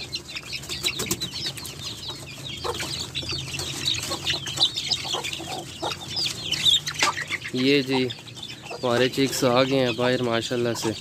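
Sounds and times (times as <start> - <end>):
chicks peeping and clucking: 0.0 - 11.0.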